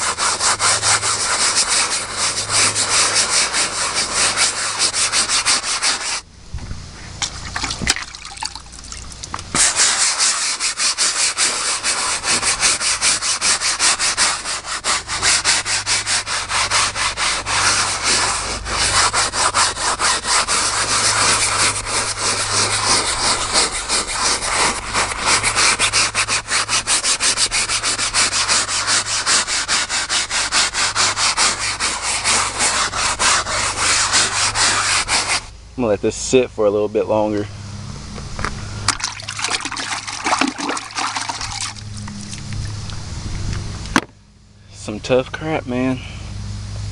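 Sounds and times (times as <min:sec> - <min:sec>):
brush scrubbing wet cloth: 0:00.0 - 0:06.2, 0:07.2 - 0:36.0, 0:38.9 - 0:42.5.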